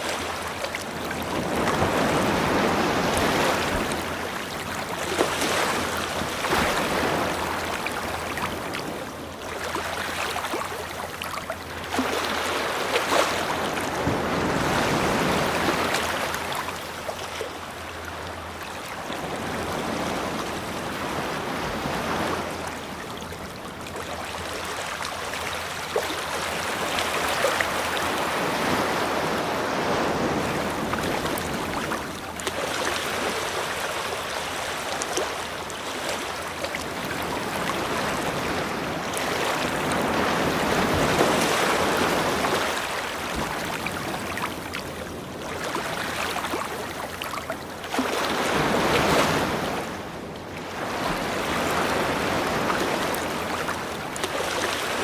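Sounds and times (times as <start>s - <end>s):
waves washing on a beach: 0.0s - 55.0s.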